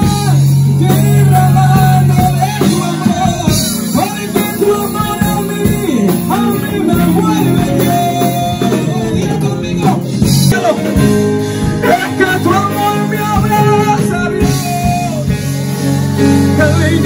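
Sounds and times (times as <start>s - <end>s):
bass line: 0.0s - 17.0s
guitar: 0.0s - 17.0s.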